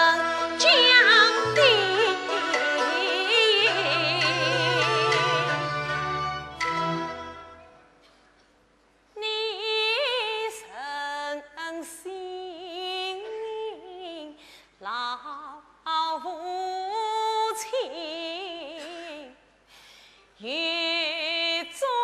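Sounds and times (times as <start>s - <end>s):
woman singing opera aria: 0.0s - 6.0s, 9.2s - 19.4s, 20.4s - 22.0s.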